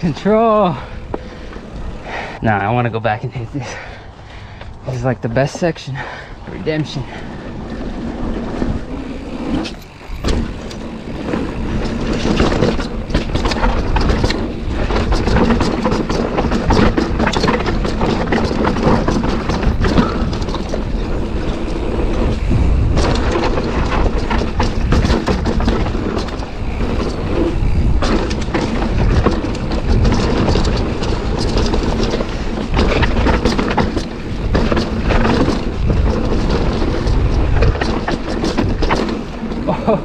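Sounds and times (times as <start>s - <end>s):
wind buffeting camera: 0.0s - 40.0s
bike clattering over rocks: 8.0s - 40.0s.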